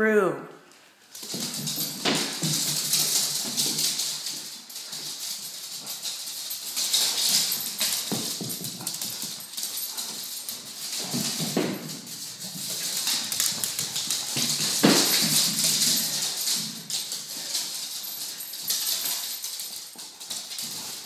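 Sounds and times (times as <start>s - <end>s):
dogs scuffling: 1.0s - 21.0s
dog claws clicking on floor: 1.1s - 21.0s.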